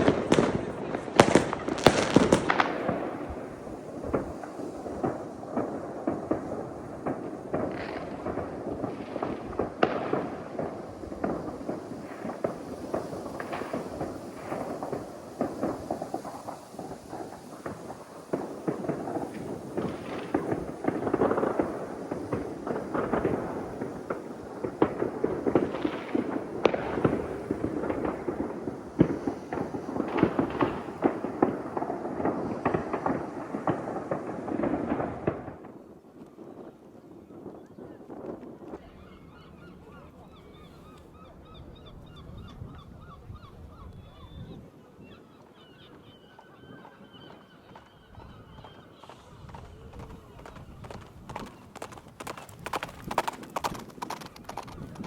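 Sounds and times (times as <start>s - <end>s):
firecrackers crackling: 0.0s - 41.2s, 48.6s - 55.0s
rumble of distant explosions: 0.0s - 44.7s, 48.6s - 55.0s.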